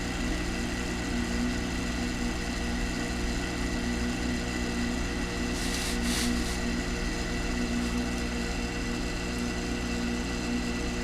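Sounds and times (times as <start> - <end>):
pulsing low electrical hum: 0.0 - 11.0.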